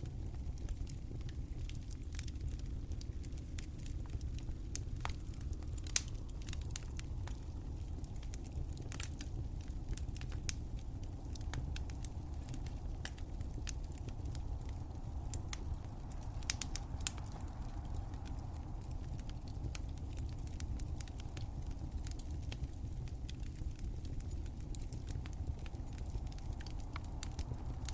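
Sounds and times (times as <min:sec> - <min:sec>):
fire crackling and popping: 0:00.0 - 0:27.9
low rush of burning: 0:00.0 - 0:27.9.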